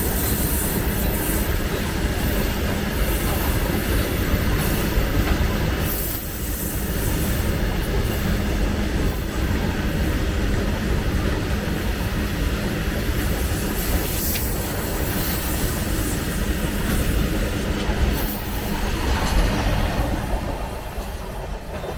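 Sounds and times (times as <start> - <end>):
freight train rumbling past: 0.0 - 21.9.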